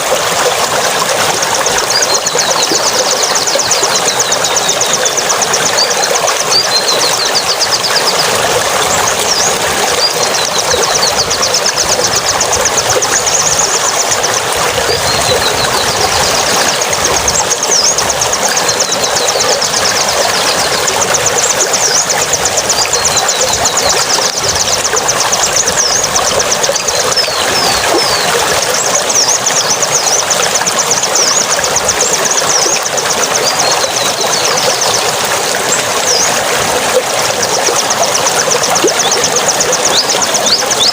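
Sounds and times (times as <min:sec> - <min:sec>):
rushing water: 0:00.0 - 0:40.9
birds chirping: 0:00.9 - 0:40.9.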